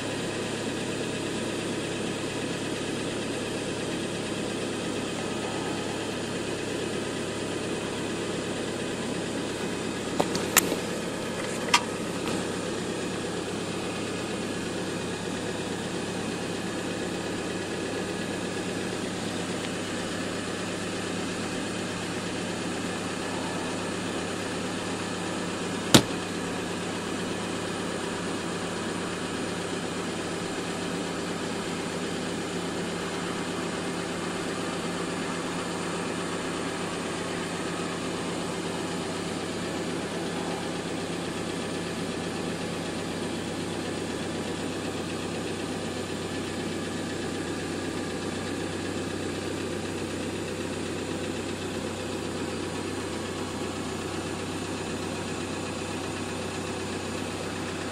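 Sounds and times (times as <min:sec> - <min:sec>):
car engine idling: 0:00.0 - 0:57.9.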